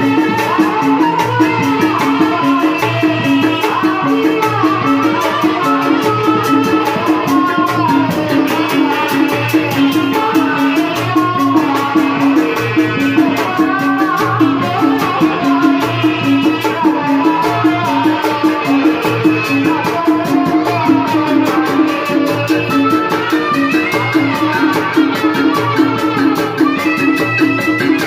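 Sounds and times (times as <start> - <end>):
fast percussion beat: 0.0 - 28.0.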